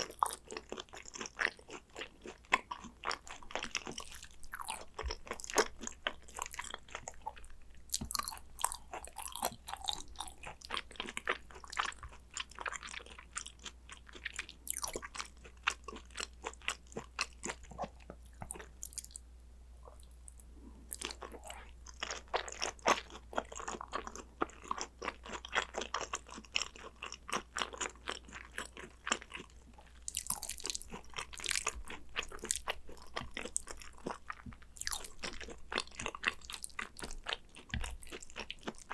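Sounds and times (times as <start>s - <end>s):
wet chewing and crunching: 0.0s - 19.2s, 19.9s - 38.9s.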